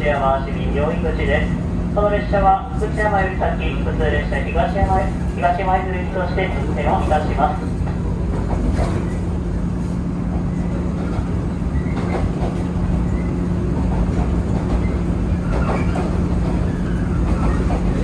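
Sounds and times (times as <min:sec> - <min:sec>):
wheels rumbling on rails: 0:00.0 - 0:18.0.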